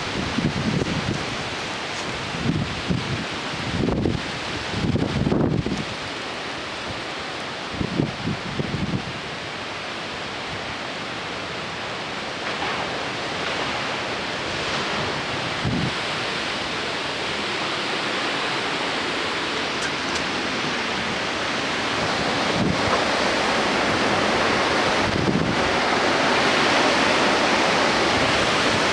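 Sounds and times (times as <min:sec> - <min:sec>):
wind buffeting microphone: 0:00.0 - 0:06.2, 0:06.8 - 0:09.4, 0:12.6 - 0:28.9
wind rushing through trees: 0:00.0 - 0:28.9.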